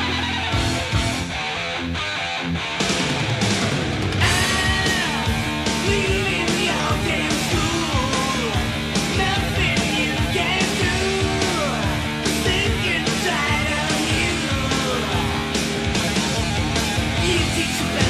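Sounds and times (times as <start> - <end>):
drums with steady beat: 0.0 - 1.6, 2.6 - 18.0
bass guitar: 0.0 - 18.0
distorted electric guitars: 0.0 - 18.0
glam metal song: 0.0 - 18.0.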